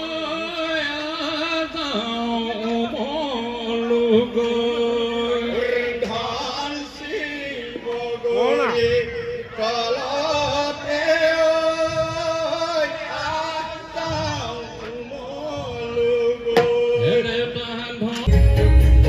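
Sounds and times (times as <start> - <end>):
man singing into a microphone: 0.0 - 18.9.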